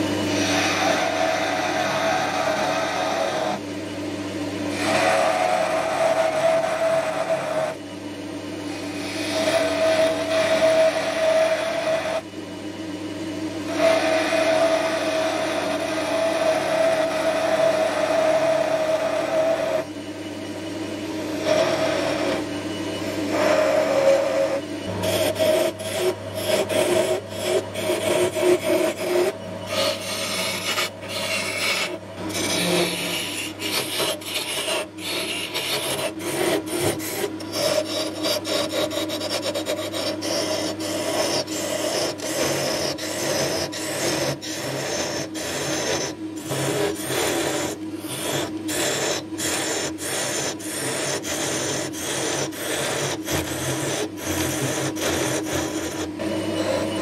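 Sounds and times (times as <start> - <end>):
turning tool scraping wood: 0.0 - 3.6, 4.7 - 7.8, 8.7 - 12.2, 13.7 - 19.8, 21.3 - 57.0
wood lathe humming: 0.0 - 12.3, 13.4 - 57.0.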